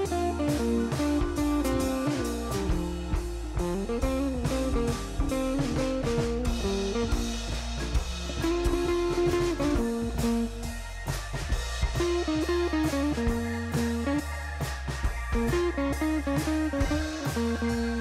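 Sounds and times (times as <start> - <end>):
guitar melody: 0.0 - 14.6, 15.2 - 18.0
bass: 0.0 - 18.0
steady drum beat: 0.0 - 18.0.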